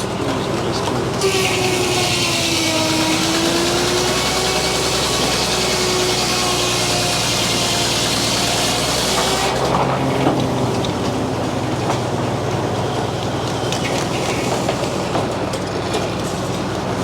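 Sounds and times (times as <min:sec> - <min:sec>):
circular saw cutting log: 0:00.0 - 0:17.0
sawmill machinery running: 0:00.0 - 0:17.0.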